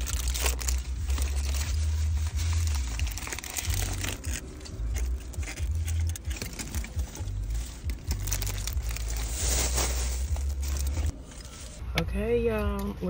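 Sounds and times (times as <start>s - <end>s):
aluminium foil crinkling: 0.0s - 11.8s
low rumble: 0.0s - 12.2s.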